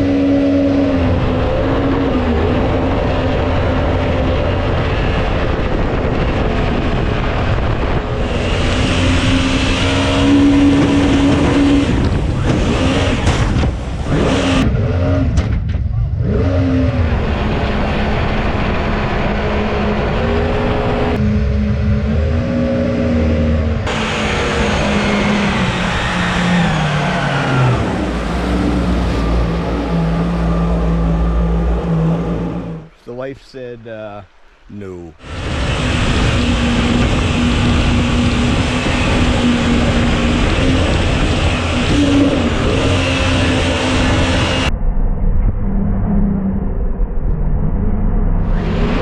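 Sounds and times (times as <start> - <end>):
boat engine revving: 0.0 - 33.2, 35.1 - 44.7, 48.4 - 49.0
broad rushing noise: 0.0 - 44.7.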